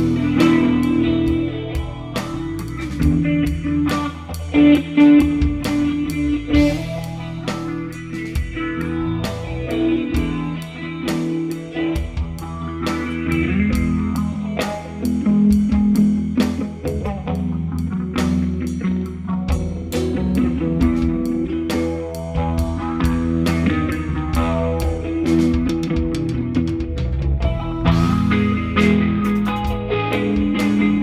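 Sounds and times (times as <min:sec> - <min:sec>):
blues-rock guitar: 0:00.0 - 0:31.0
drums keeping a beat: 0:00.0 - 0:31.0.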